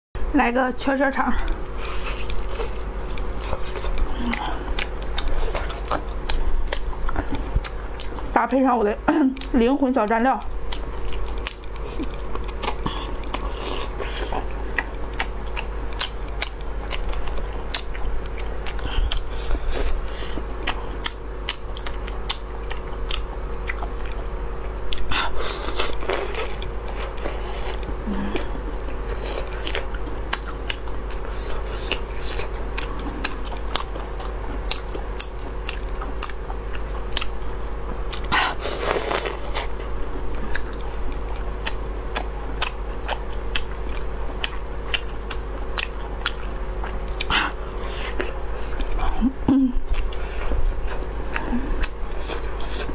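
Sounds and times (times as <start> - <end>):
steady low hum: 0.2 - 52.9
sausage being bitten and chewed: 1.5 - 8.4, 10.6 - 52.9.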